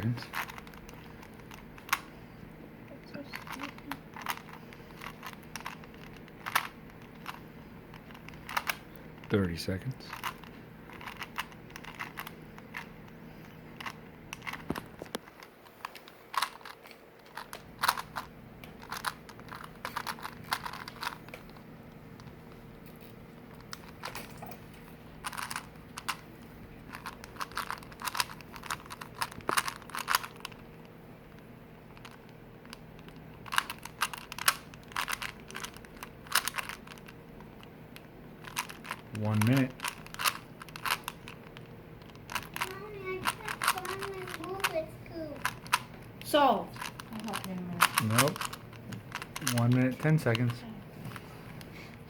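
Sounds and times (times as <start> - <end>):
puzzle cube turns clicking: 0.3 - 2.2, 3.3 - 21.6, 25.2 - 26.2, 26.8 - 50.6.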